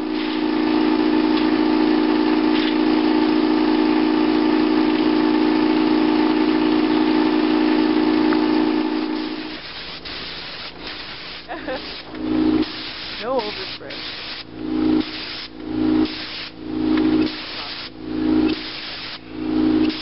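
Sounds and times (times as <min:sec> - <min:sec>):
paint sprayer humming: 0:00.0 - 0:20.0.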